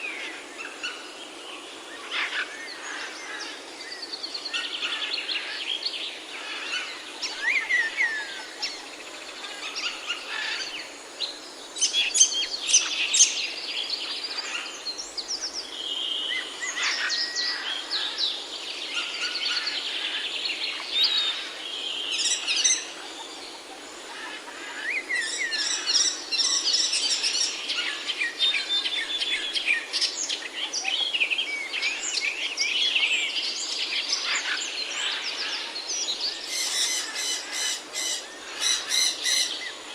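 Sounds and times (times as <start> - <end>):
background hiss: 0.0 - 39.9
songbirds chirping: 0.0 - 39.9.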